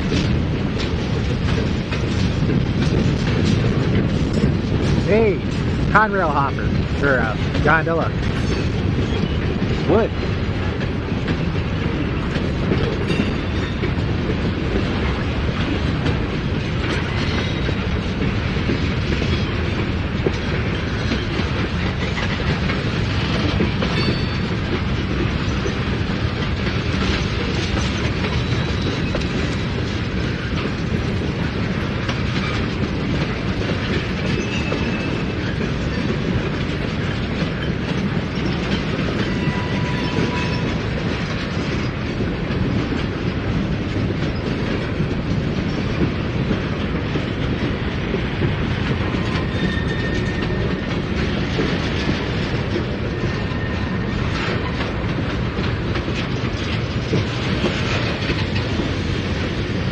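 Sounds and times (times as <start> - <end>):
wheels clattering over rail joints: 0.0 - 59.9.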